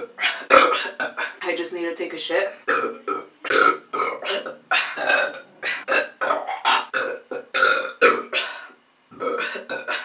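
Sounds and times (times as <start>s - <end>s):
woman burping: 0.0s - 1.4s, 2.7s - 10.0s.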